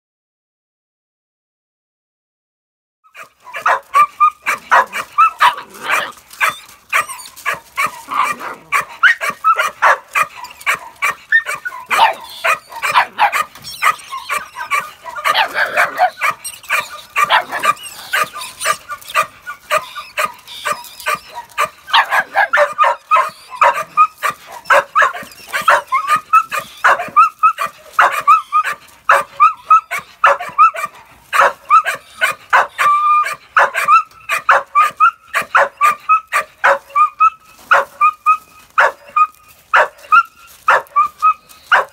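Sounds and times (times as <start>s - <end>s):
puppies yapping and barking: 3.1s - 41.9s.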